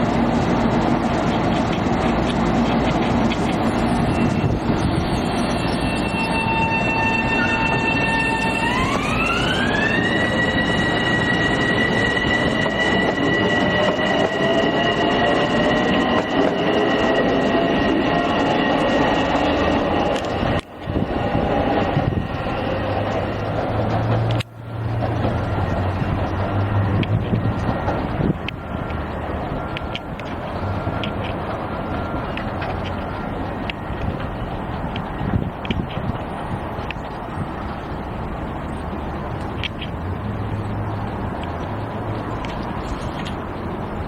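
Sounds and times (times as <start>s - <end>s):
electric train running: 0.0s - 44.0s
train whine: 0.0s - 44.0s.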